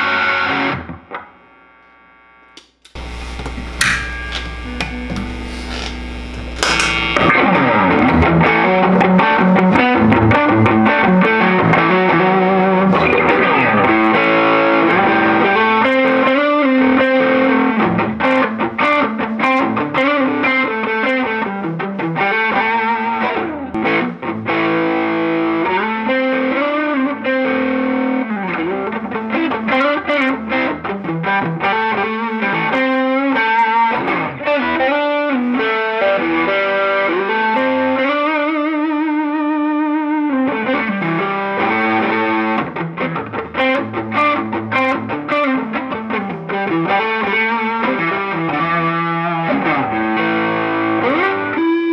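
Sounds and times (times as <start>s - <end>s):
distorted electric guitar: 0.0s - 51.9s.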